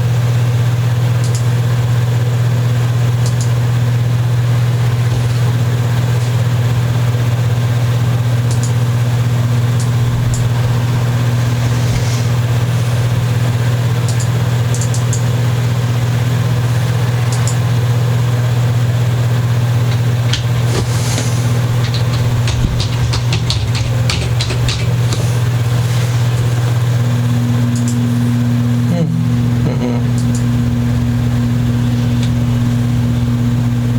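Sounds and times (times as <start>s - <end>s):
loud low hum: 0.0s - 33.9s.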